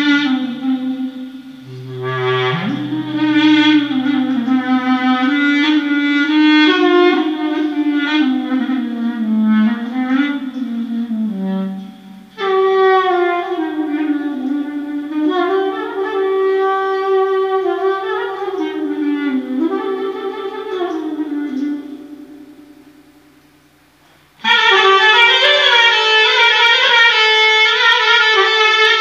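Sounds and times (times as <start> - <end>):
solo clarinet improvisation: 0.0 - 23.2, 24.4 - 29.0.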